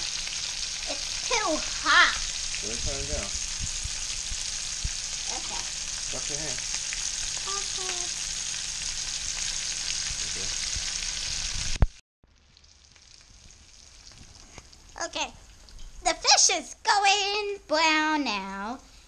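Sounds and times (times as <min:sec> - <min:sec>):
fish frying in hot oil: 0:00.0 - 0:16.1.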